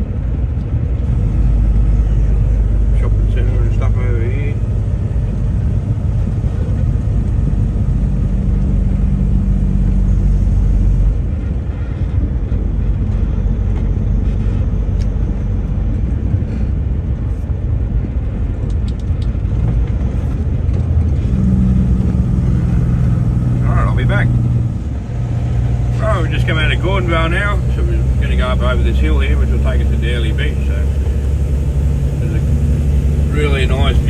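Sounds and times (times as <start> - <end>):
vehicle engine and road rumble: 0.0 - 34.0.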